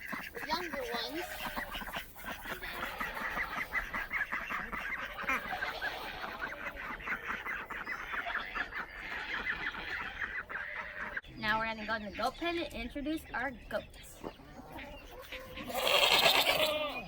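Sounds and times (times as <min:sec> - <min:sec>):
geese honking: 0:00.0 - 0:13.8, 0:14.4 - 0:17.0
ducks quacking: 0:00.0 - 0:17.0.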